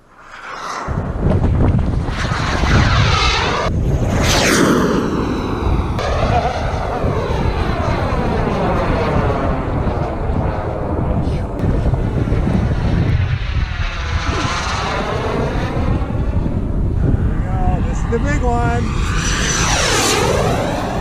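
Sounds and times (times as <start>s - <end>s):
jet turbine roaring and whining: 0.0s - 21.0s.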